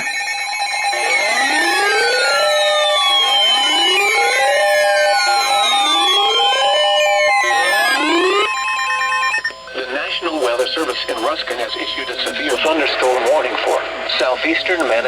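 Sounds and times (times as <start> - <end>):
steady alarm tones: 0.0 - 15.0.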